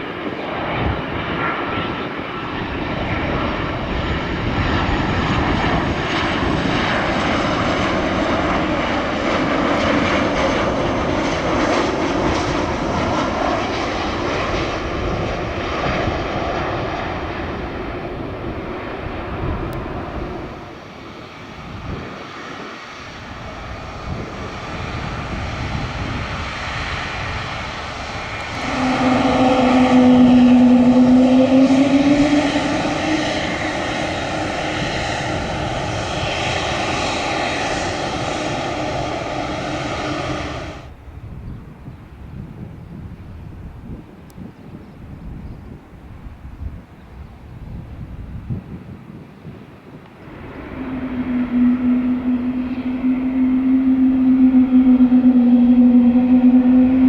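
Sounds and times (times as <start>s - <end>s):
airliner engine drone: 0.0s - 57.0s.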